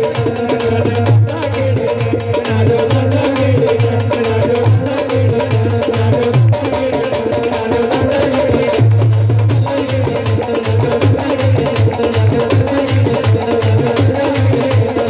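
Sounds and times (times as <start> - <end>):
amplified devotional music: 0.0 - 15.0
fast percussion beat: 0.0 - 15.0.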